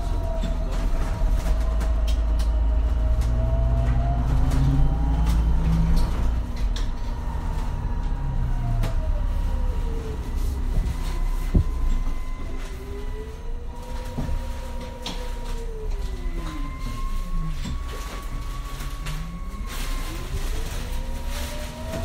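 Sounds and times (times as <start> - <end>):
bus engine rumble: 0.0 - 22.0
hybrid drive whine: 0.0 - 22.0.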